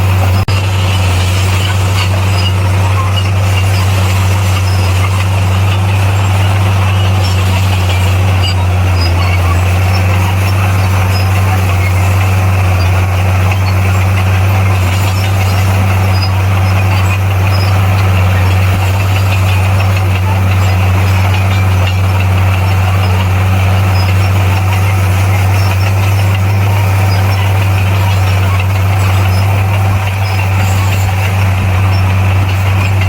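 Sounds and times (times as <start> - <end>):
bulldozer diesel engine running: 0.0 - 33.0.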